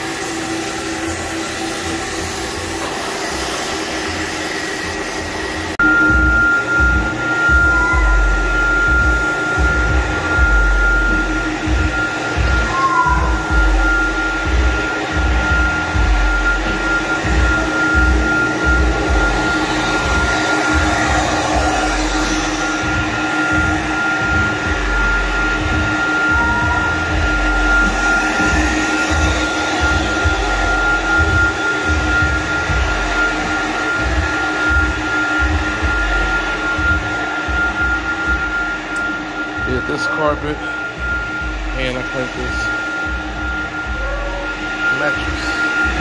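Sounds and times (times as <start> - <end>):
vacuum motor whining: 0.0 - 46.0.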